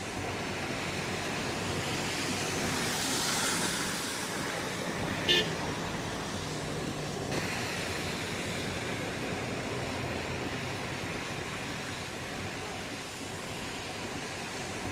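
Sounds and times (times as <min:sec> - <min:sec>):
rain on marble paving: 0:00.0 - 0:14.9.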